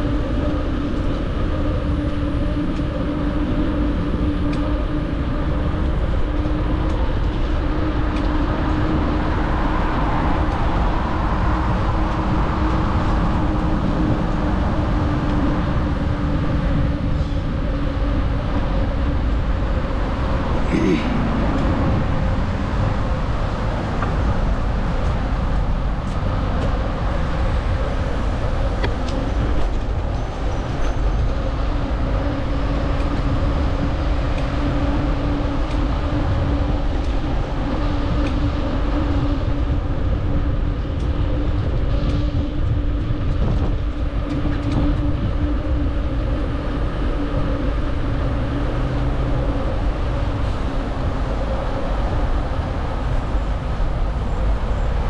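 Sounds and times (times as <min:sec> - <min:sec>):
wind rush: 0:00.0 - 0:55.0.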